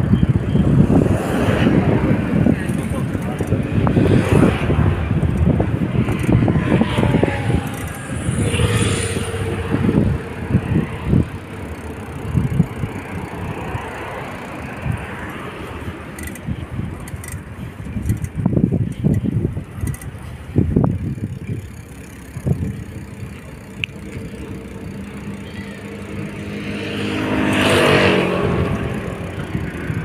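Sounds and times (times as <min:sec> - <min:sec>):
road traffic passing: 0:00.0 - 0:30.0
wind buffeting microphone: 0:00.0 - 0:30.0
bicycle knocks and rattles: 0:01.8 - 0:30.0.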